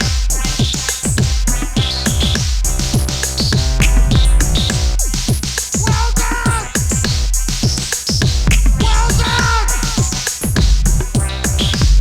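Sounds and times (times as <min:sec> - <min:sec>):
steady bass: 0:00.0 - 0:12.0.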